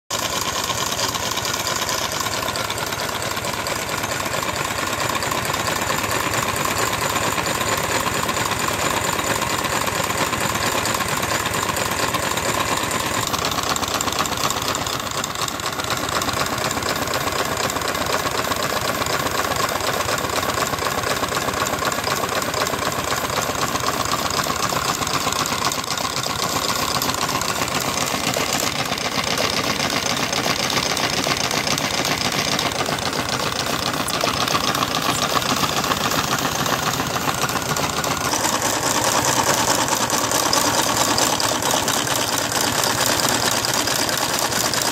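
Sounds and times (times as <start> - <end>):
rods and valve gear clatter: 0.1 - 44.9
steam exhaust beats and hiss: 0.2 - 44.9.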